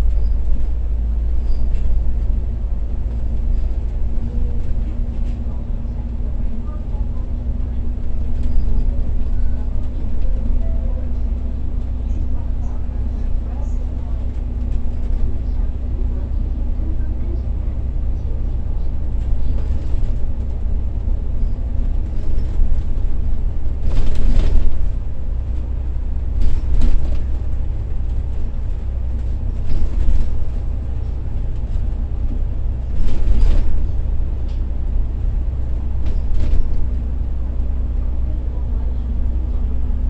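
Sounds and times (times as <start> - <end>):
bus rumble from inside: 0.0 - 40.0.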